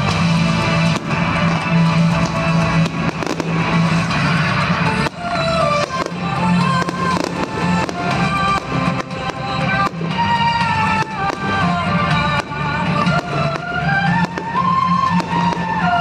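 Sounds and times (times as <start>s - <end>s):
fireworks bangs: 0.0s - 16.0s
loud music: 0.0s - 16.0s.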